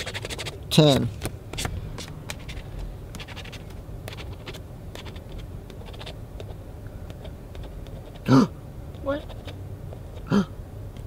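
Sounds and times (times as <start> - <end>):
scratching lottery ticket: 0.0 - 1.7, 2.3 - 8.3, 9.0 - 10.2
low steady hum: 0.0 - 11.0.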